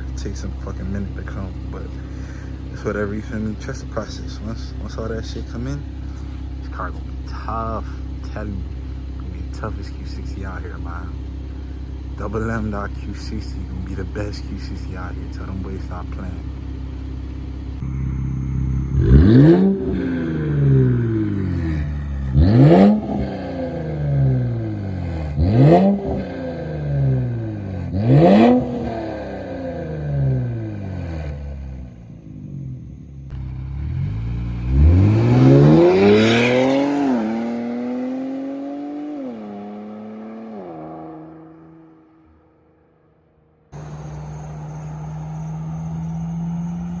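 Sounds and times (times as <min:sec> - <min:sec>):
car engine revving over idle: 0:00.0 - 0:47.0.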